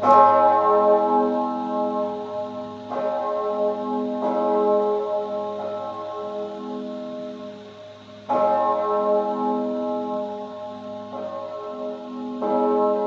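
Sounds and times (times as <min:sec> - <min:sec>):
large church bell tolling: 0:00.0 - 0:13.0.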